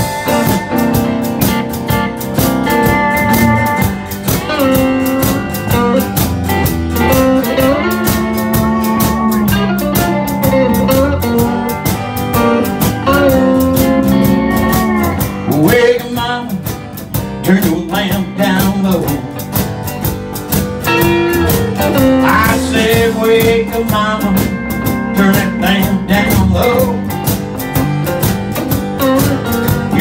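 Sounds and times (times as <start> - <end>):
drum kit beat: 0.0 - 30.0
electric bass: 0.0 - 30.0
sliding lead guitar lines: 0.0 - 30.0
strummed acoustic guitar: 0.0 - 30.0.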